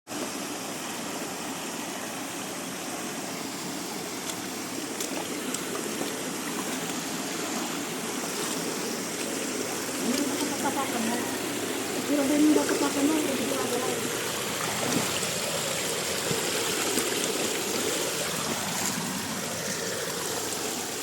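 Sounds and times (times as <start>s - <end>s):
creek water flowing: 0.1s - 21.0s.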